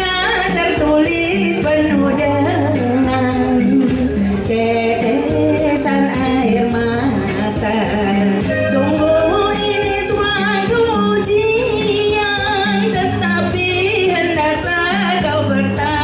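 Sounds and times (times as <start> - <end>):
backing track with steady beat: 0.0 - 16.0
woman singing into microphone: 0.0 - 16.0.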